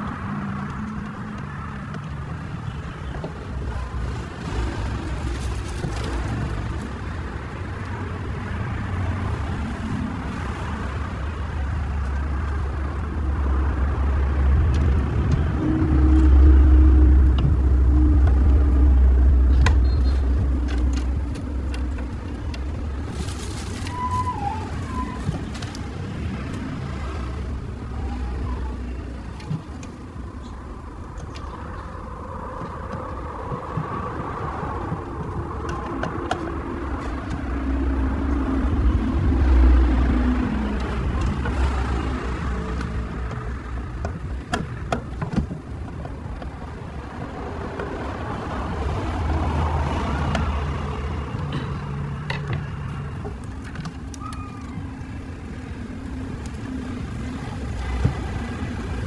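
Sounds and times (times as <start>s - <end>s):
low rumbling vehicle noise: 0.0s - 59.0s.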